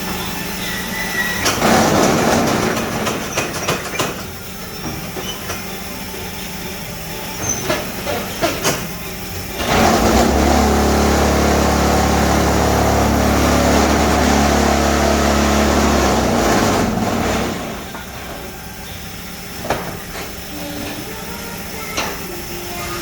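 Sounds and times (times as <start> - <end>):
machine mechanical hum: 0.0 - 23.0.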